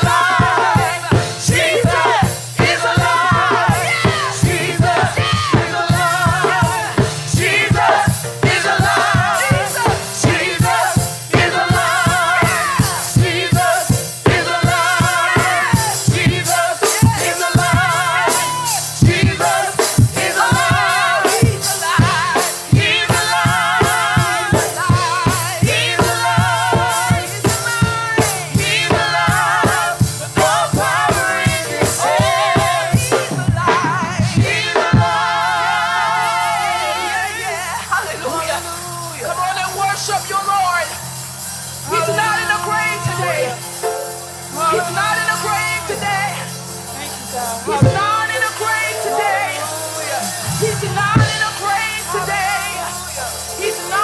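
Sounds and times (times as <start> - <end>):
band playing: 0.0 - 54.0
drum kit beating: 0.0 - 54.0
gospel singers with vibrato: 0.0 - 54.0.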